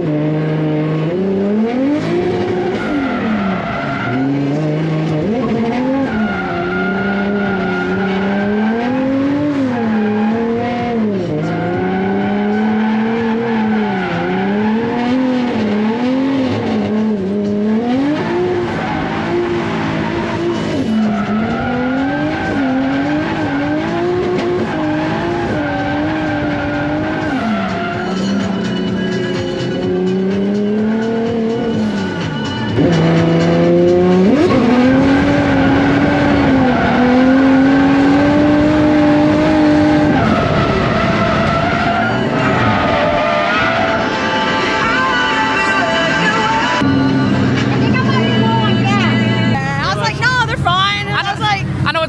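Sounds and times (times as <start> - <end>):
car engine revving: 0.0 - 44.6.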